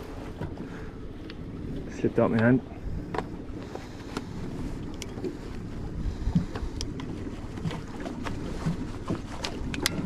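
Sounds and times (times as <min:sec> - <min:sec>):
small boat on water: 0:00.0 - 0:10.0
wind on microphone: 0:00.0 - 0:10.0.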